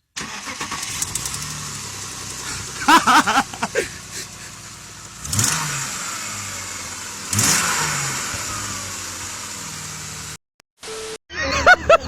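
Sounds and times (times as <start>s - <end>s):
car engine revving: 0.2s - 10.4s.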